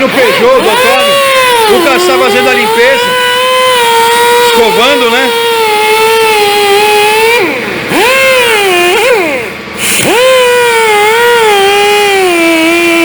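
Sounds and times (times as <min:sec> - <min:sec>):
wire brush power tool whine: 0:00.0 - 0:13.0.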